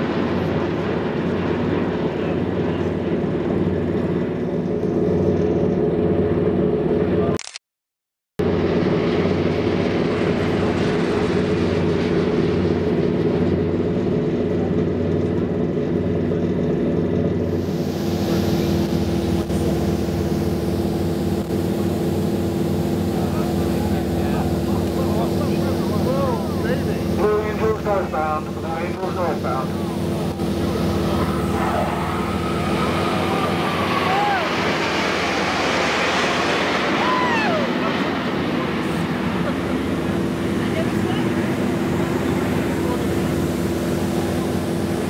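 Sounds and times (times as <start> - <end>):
boat diesel engines droning: 0.0 - 7.4, 8.4 - 45.0.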